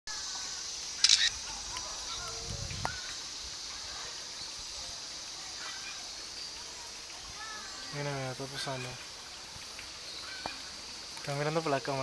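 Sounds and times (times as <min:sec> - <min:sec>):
faint chirps: 0:00.1 - 0:12.0
high-pitched hiss: 0:00.1 - 0:12.0.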